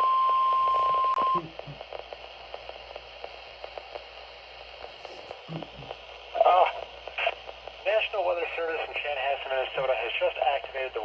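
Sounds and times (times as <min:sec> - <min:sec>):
radio hiss: 0:00.4 - 0:11.0.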